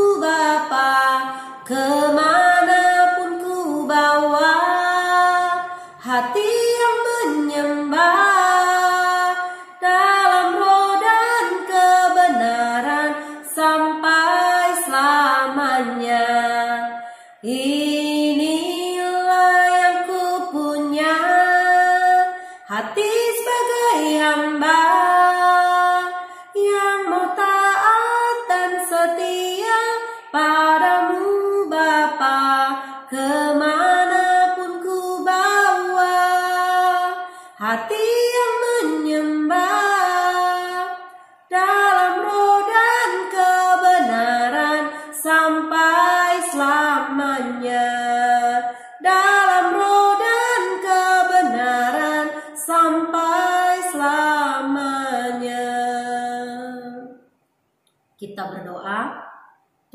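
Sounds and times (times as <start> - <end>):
woman singing worship song: 0.0 - 57.2.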